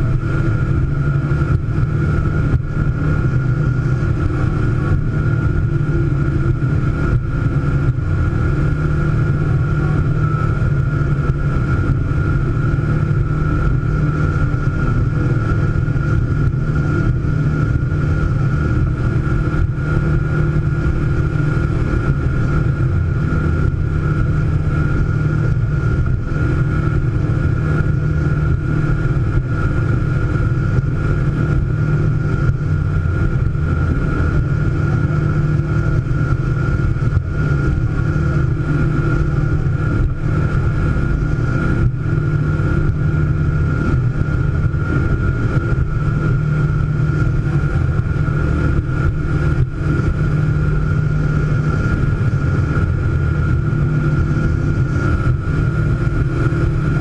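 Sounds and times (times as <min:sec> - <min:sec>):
high engine whine: 0:00.0 - 0:57.0
powerboat engine drone: 0:00.0 - 0:57.0.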